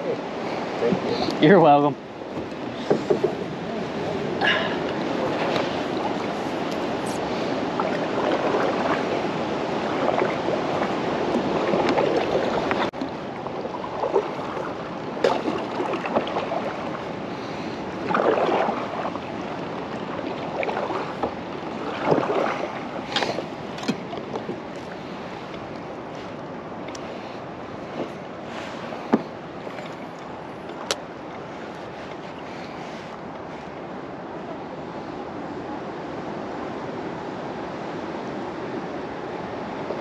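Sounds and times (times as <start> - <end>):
wind buffeting microphone: 0.0 - 32.5
water lapping against kayak hull: 0.0 - 40.0.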